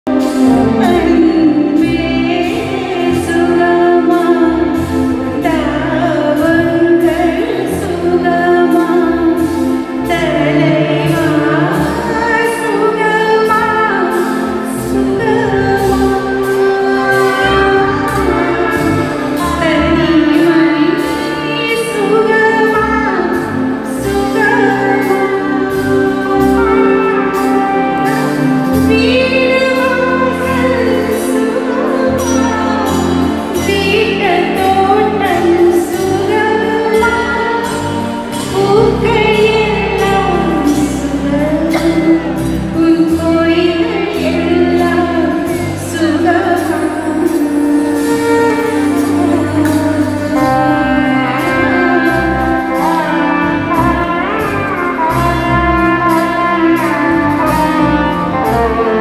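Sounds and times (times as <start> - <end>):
keyboard: 0.0 - 59.0
violin melody: 0.0 - 59.0.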